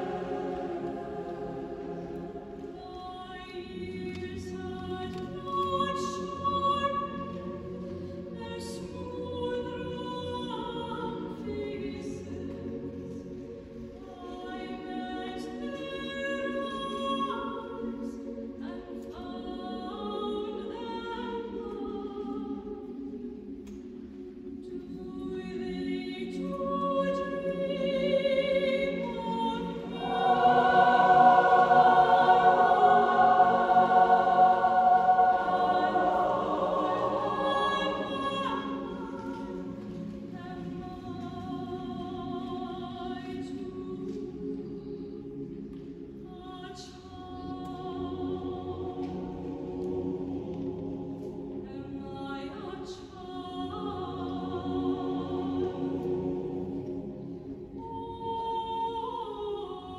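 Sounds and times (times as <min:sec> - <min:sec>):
choir singing sustained chords: 0:00.0 - 0:59.9
soprano soloist singing: 0:00.0 - 0:59.9.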